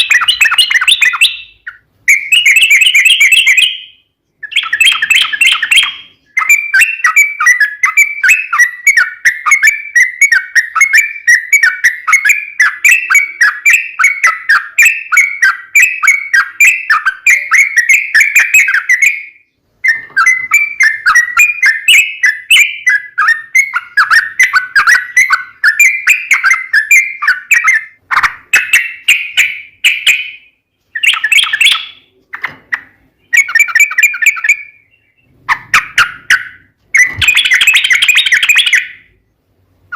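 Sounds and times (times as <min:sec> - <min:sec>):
bird singing bubbly chirps: 0:00.0 - 0:32.2, 0:32.8 - 0:39.3.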